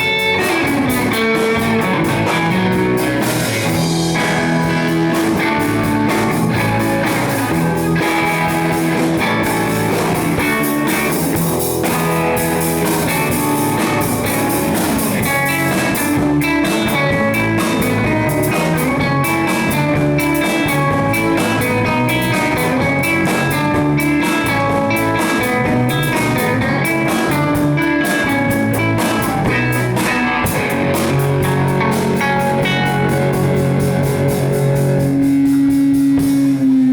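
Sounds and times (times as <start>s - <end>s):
blues-rock band playing: 0.0s - 36.9s
drums and cymbals: 0.0s - 36.9s.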